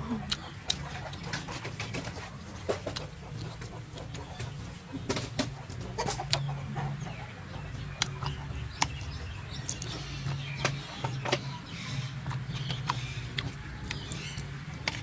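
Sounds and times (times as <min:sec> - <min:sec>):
chewing and lip smacks: 0:00.0 - 0:15.0
steady low hum: 0:00.0 - 0:15.0.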